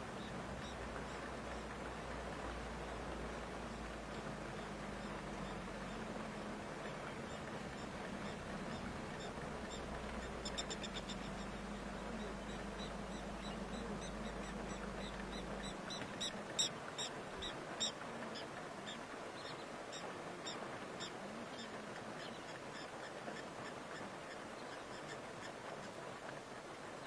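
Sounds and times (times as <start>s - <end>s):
low steady hum: 0.0s - 22.7s.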